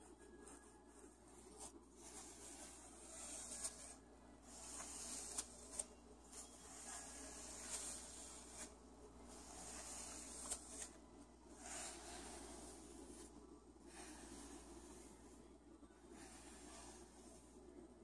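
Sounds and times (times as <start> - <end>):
hand rustling feathers: 0.4 - 15.0.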